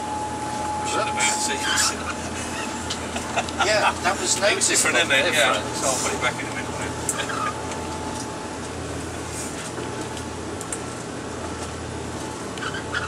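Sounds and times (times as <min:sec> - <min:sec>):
boat engines droning: 0:00.0 - 0:13.0
faint steady whine: 0:00.0 - 0:13.0.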